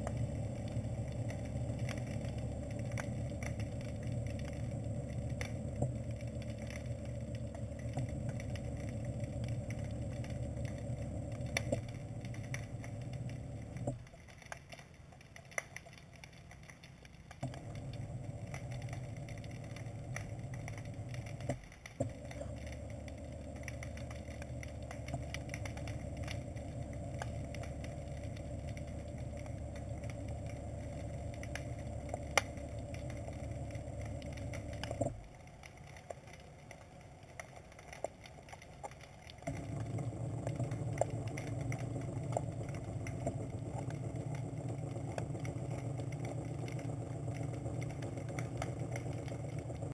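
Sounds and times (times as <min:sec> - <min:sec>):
underwater thruster motors whining: 0:00.0 - 0:14.0, 0:17.4 - 0:35.2, 0:39.5 - 0:49.9
faint clicks: 0:00.0 - 0:49.9.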